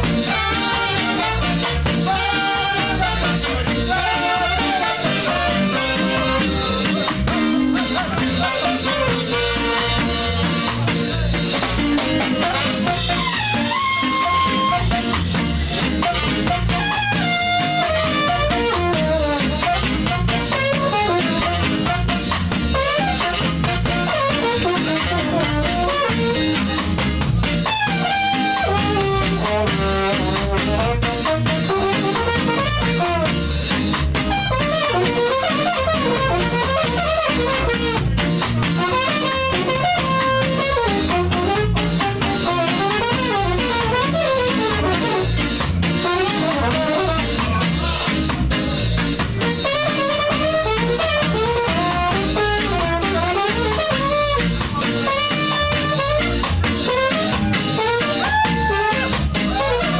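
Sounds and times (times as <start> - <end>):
live ska band playing: 0.0 - 59.9.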